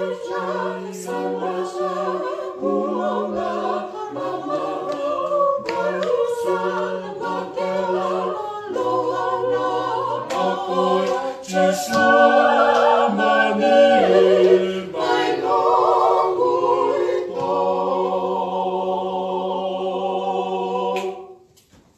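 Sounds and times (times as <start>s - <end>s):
group singing in harmony: 0.0s - 21.6s.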